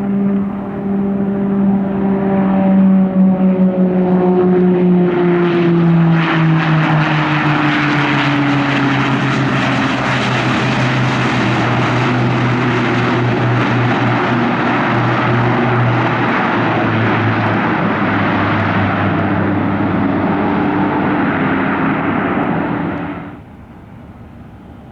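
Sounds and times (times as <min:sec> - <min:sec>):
aircraft engine passing: 0:00.0 - 0:24.9
broad rushing noise: 0:00.0 - 0:24.9.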